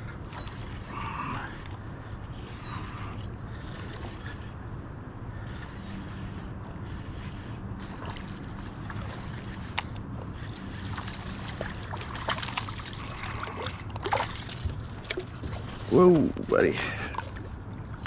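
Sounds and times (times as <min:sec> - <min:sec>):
low steady hum: 0:00.0 - 0:18.0
water lapping against hull: 0:00.0 - 0:18.0.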